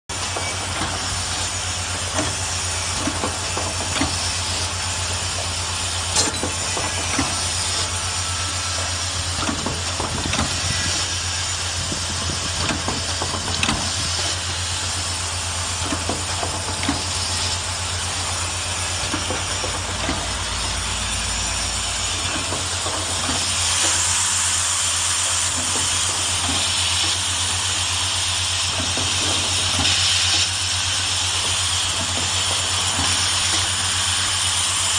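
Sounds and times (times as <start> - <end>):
machine humming and hissing: 0.1 - 34.9.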